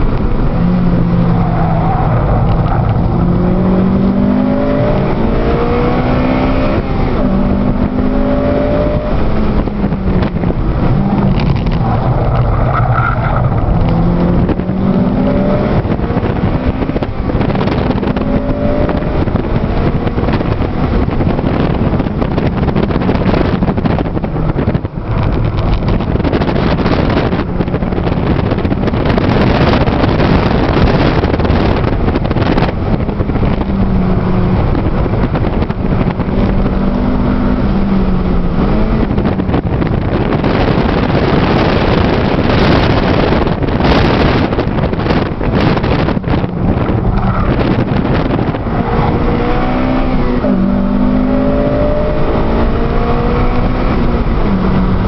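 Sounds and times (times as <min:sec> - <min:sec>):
car engine revving: 0:00.0 - 0:55.0
steady rushing noise: 0:00.0 - 0:55.0.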